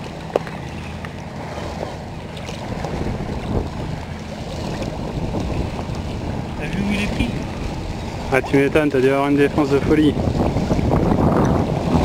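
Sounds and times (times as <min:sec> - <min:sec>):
wind on microphone: 0:01.2 - 0:12.0.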